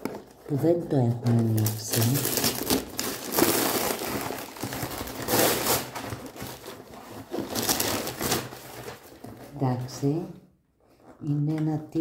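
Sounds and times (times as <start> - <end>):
packaging crinkling and scraping: 0.0 - 10.2, 10.8 - 11.2.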